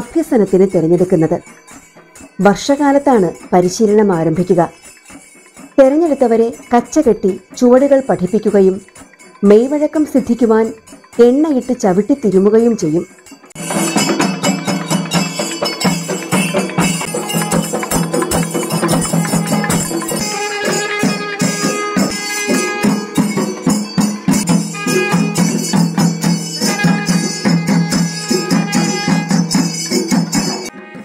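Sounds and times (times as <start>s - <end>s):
fast drum strokes: 0.0s - 31.0s
held piping note: 0.0s - 31.0s
jangling metal percussion: 0.0s - 31.0s.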